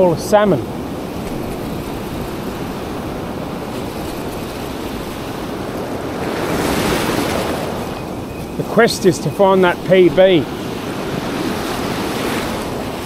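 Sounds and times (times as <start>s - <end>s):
foamy wash over sand: 0.0s - 13.0s
surf breaking: 0.0s - 13.0s
wind on microphone: 0.0s - 13.0s.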